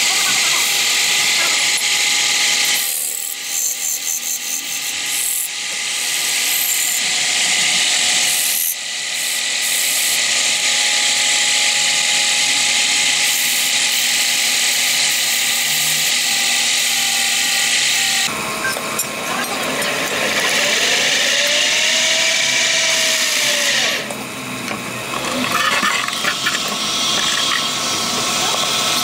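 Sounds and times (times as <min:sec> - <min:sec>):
lathe motor hum: 0:00.0 - 0:29.0.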